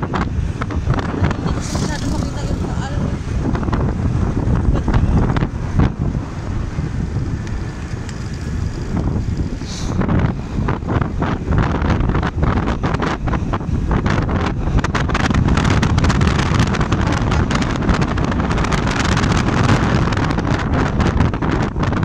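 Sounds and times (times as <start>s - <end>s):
motorcycle engine: 0.0s - 20.7s
road noise: 0.0s - 22.0s
wind buffeting microphone: 0.0s - 22.0s.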